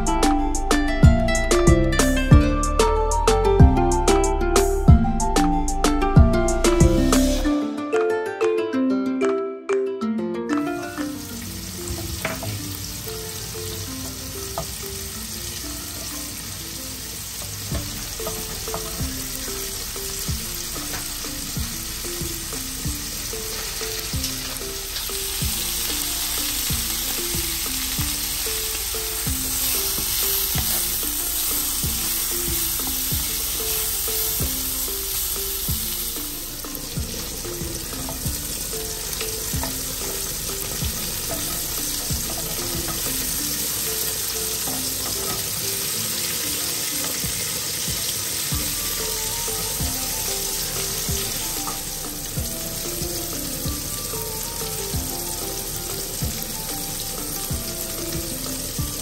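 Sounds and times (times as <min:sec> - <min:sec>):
soft background music: 0:00.0 - 0:59.0
chicken sizzling in a pan: 0:06.6 - 0:07.5, 0:10.8 - 0:59.0.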